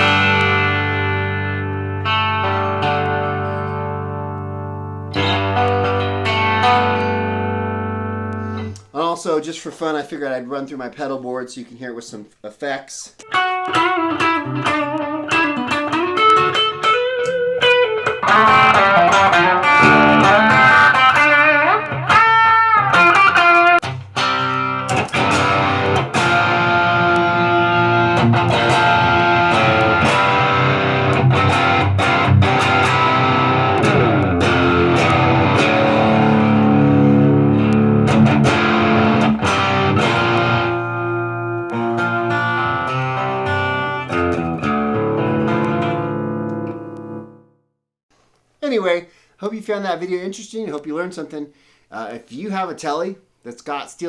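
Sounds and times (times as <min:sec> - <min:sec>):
electric guitar playing: 0:00.0 - 0:08.9, 0:13.2 - 0:47.6.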